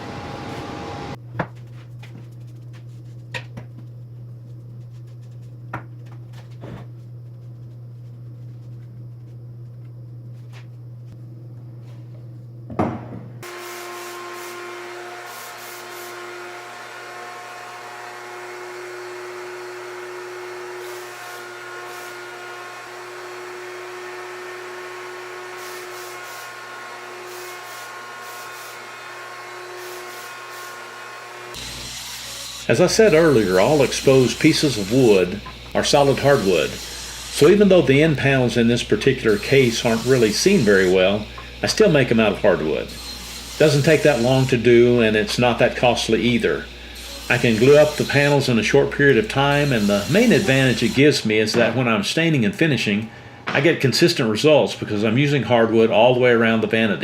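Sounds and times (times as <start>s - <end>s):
workshop hum: 0.0s - 57.0s.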